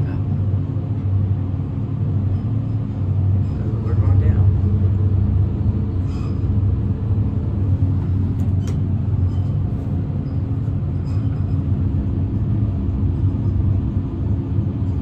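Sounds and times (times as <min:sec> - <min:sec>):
elevator rumble and hum: 0:00.0 - 0:15.0.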